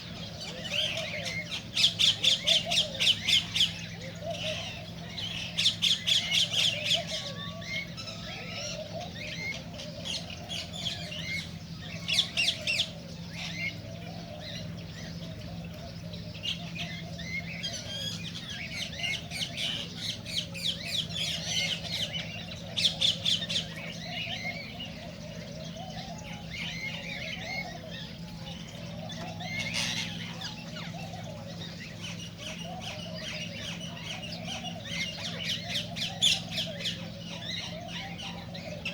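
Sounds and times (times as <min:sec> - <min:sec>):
cockatiels chattering and squawking: 0:00.0 - 0:38.9
steady low hum: 0:00.0 - 0:38.9.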